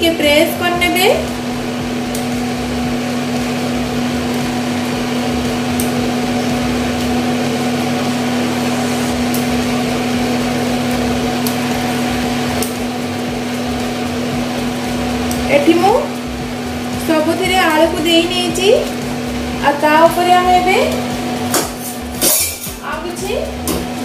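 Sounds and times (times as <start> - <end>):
cooling fan: 0.0 - 24.0
induction cooktop humming: 0.0 - 24.0.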